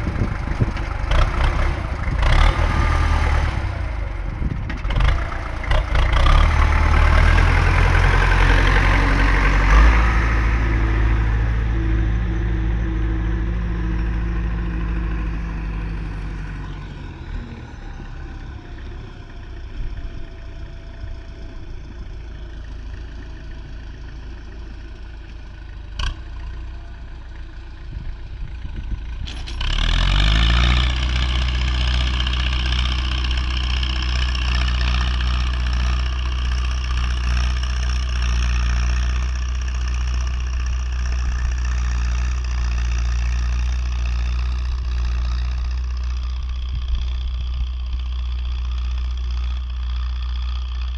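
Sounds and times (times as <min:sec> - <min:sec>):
tractor diesel engine: 0:00.0 - 0:50.9.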